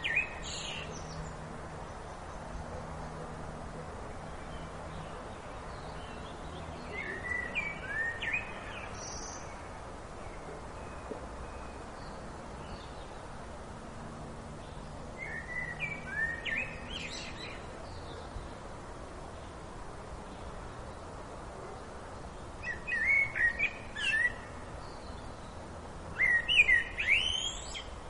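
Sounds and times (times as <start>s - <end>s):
songbird singing: 0.0s - 28.0s
steady background hiss: 0.0s - 28.0s.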